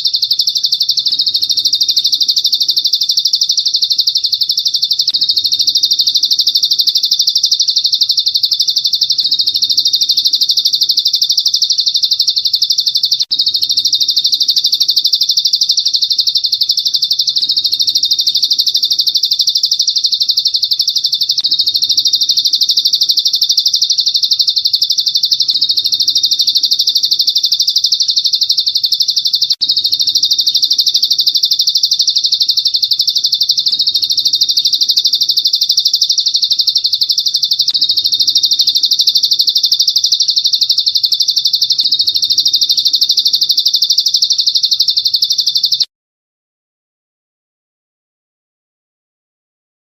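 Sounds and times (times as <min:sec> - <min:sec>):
rapid high-pitched bird trill: 0:00.0 - 0:45.9.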